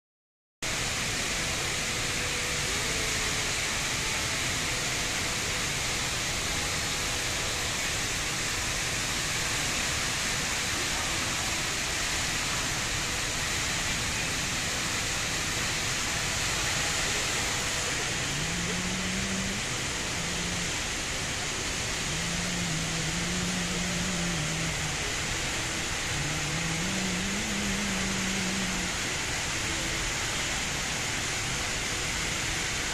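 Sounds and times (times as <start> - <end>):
indoor waterfall rushing: 0.6 - 32.9.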